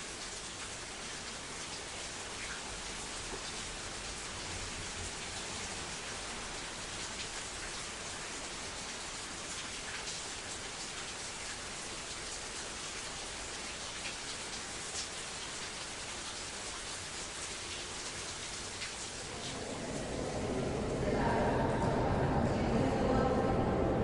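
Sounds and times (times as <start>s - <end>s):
falling water hiss and patter: 0.0s - 23.2s.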